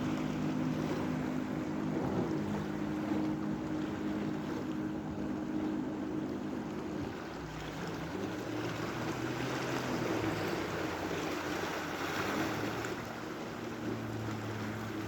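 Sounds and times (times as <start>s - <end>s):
boat engine humming: 0.0s - 15.0s
sea water rushing: 0.0s - 15.0s
wind: 0.0s - 15.0s.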